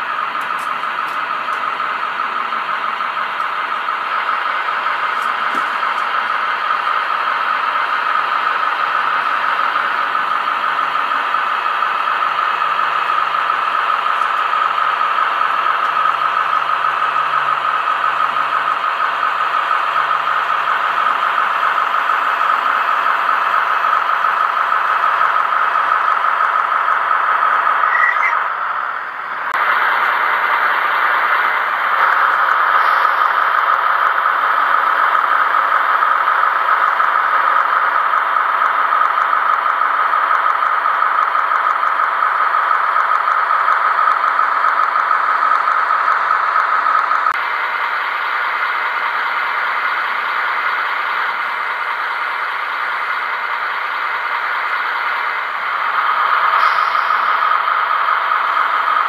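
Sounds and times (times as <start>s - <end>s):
model train motor whine: 0.3s - 59.0s.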